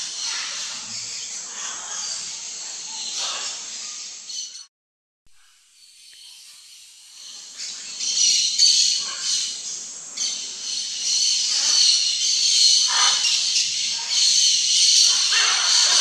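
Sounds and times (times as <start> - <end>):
insect chorus: 0.0 - 4.6, 5.4 - 16.0
bird calls: 0.0 - 4.7, 7.2 - 16.0.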